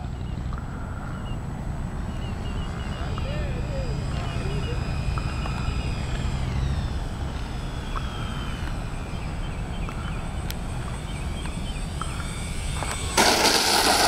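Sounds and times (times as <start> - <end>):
electric fans whining: 0.0 - 14.0.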